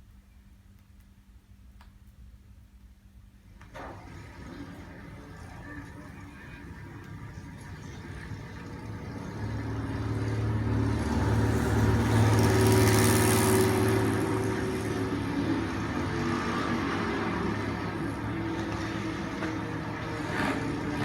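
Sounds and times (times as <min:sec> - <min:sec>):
racing car engine passing by: 0:03.7 - 0:21.0.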